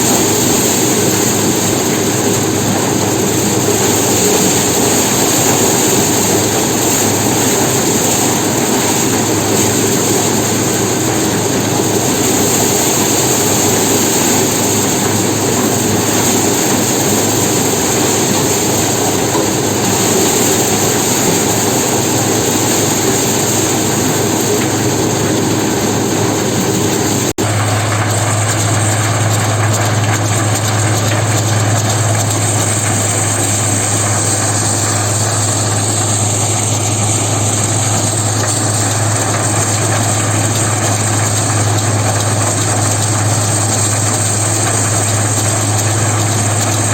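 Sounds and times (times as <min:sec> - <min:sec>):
threshing machine running: 0:00.0 - 0:46.9.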